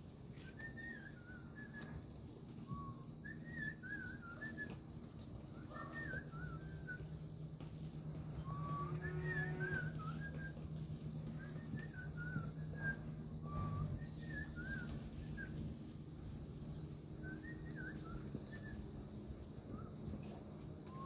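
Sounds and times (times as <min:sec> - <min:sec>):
steady low hum: 0:00.0 - 0:21.0
small birds chirping: 0:00.3 - 0:21.0.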